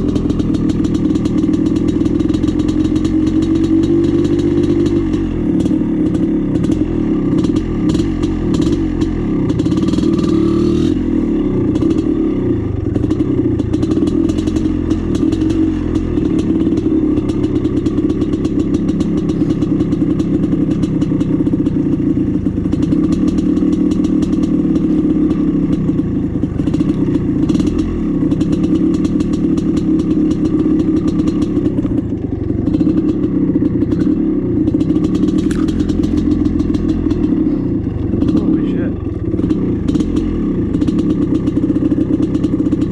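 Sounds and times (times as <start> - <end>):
bike knocks and rattles: 0.0 - 10.3, 12.9 - 38.6, 39.2 - 42.9
dirt bike engine running: 0.0 - 42.9.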